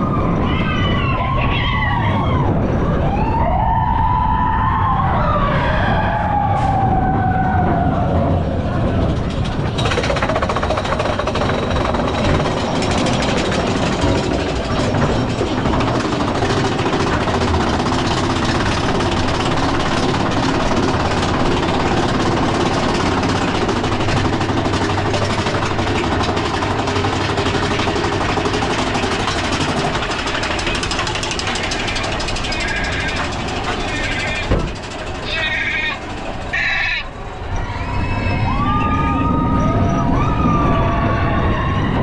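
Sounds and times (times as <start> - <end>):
roller coaster rumbling on track: 0.0 - 42.0.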